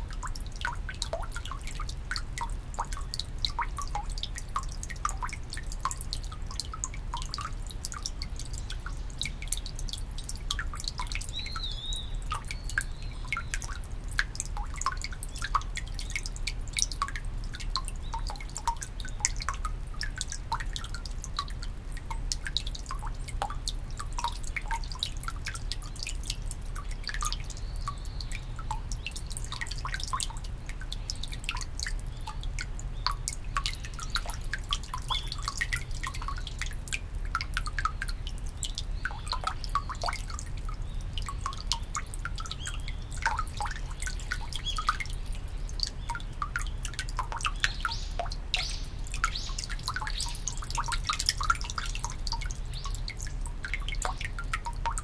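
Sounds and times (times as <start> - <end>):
water drops plinking into basin: 0.0 - 55.0.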